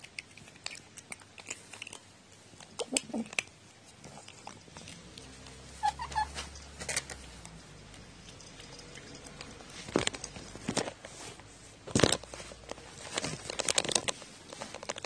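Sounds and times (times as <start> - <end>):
cat crunching kibble: 0.0 - 15.0.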